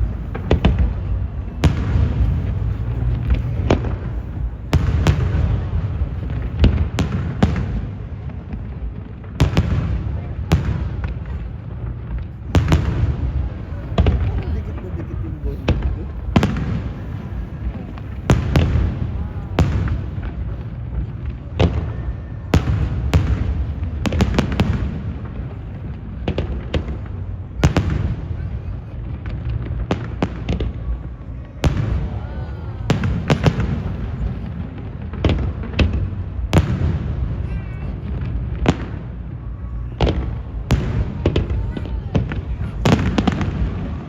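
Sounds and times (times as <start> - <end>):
crowd noise: 0.0 - 44.0
low rumble: 0.0 - 44.0.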